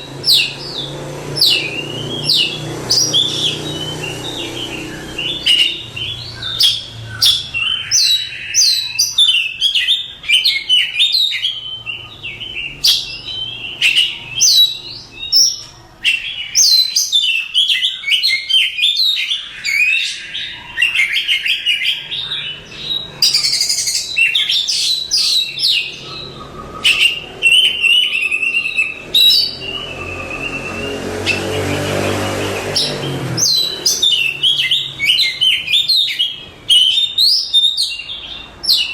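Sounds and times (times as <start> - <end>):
songbird whistling song: 0.0 - 38.9.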